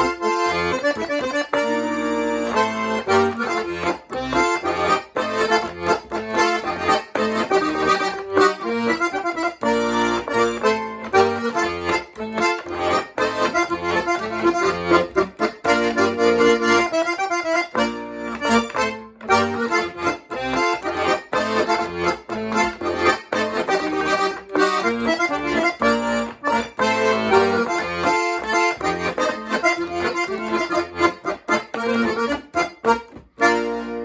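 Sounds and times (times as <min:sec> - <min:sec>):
accordion playing a polka: 0:00.0 - 0:34.0.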